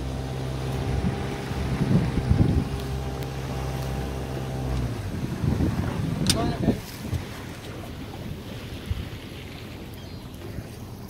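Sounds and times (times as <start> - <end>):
wind on microphone: 0.0 - 10.8
boat engine running: 0.0 - 11.0.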